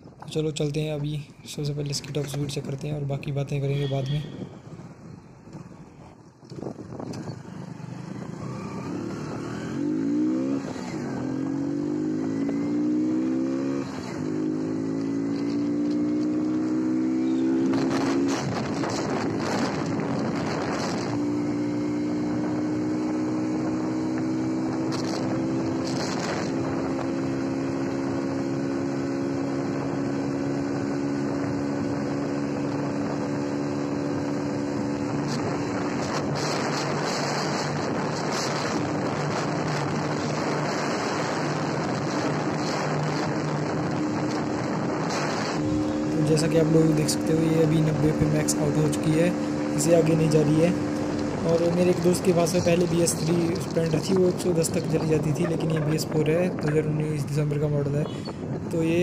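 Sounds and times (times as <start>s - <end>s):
wind buffeting microphone: 4.3s - 12.9s, 13.5s - 59.0s
motorcycle engine accelerating: 5.4s - 59.0s.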